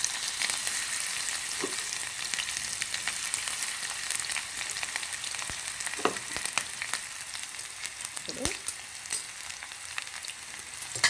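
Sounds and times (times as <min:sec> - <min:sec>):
batter deep-frying in oil: 0:00.0 - 0:11.0.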